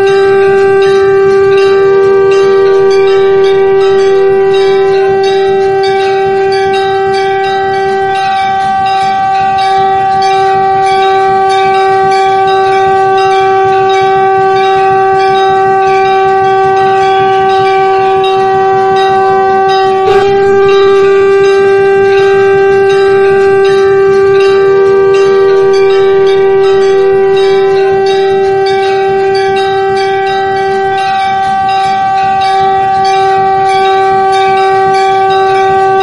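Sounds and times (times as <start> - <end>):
flute music: 0.0 - 36.0.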